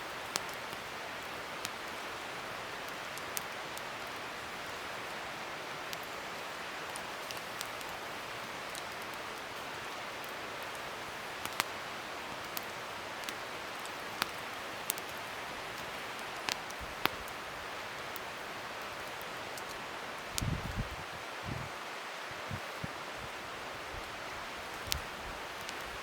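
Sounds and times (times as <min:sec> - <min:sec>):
wood fire burning: 0:00.0 - 0:26.0.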